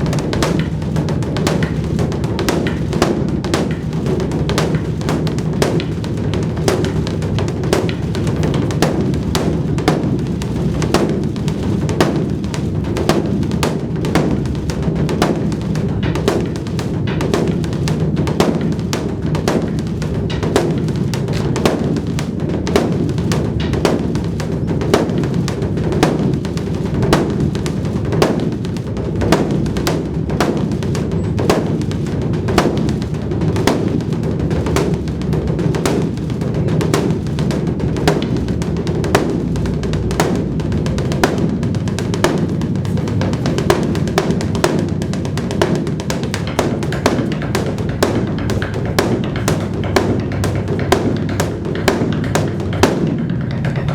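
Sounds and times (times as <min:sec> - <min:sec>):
drums beaten in fast rhythm: 0:00.0 - 0:53.9
steady low hum: 0:00.0 - 0:53.9.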